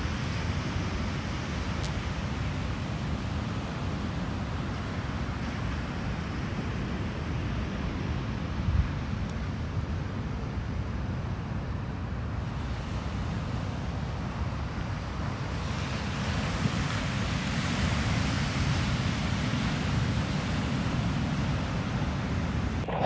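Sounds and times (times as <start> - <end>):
ocean surf washing on beach: 0.0 - 23.0.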